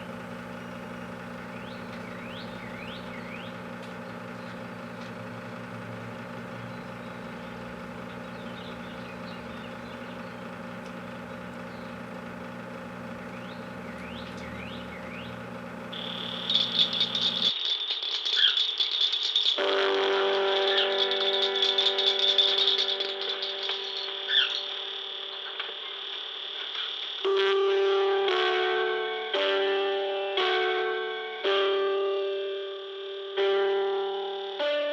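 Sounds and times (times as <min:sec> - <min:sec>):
microwave oven humming: 0:00.0 - 0:18.8, 0:19.5 - 0:34.9
high-pitched rattling buzz: 0:00.0 - 0:28.4.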